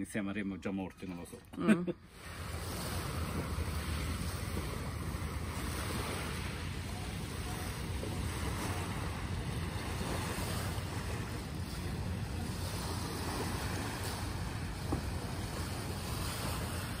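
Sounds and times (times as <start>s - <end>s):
small waves on rocky shore: 2.0s - 17.0s
wind buffeting microphone: 2.2s - 17.0s.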